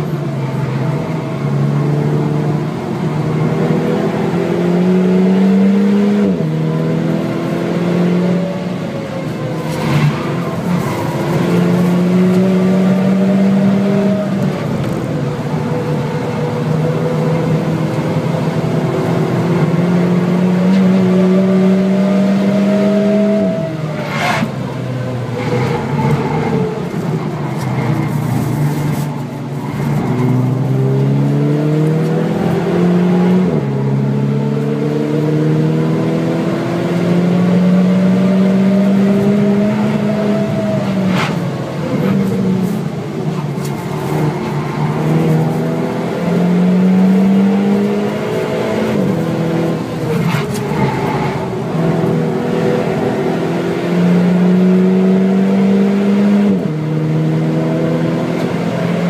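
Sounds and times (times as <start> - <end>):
car engine revving from inside cabin: 0.8 - 8.8, 9.5 - 15.0, 16.2 - 24.5, 29.8 - 59.0.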